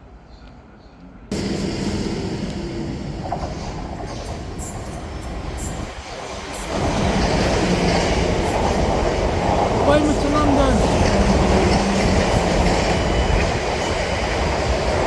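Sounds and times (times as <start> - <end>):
passenger train wheel-on-rail noise: 0.0 - 15.0
train wheels clicking over track: 1.3 - 15.0.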